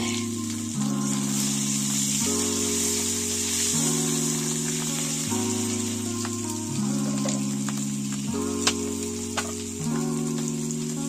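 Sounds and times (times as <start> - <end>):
music of low chords: 0.0 - 11.0
potato wedges sizzling in oil: 0.0 - 11.0.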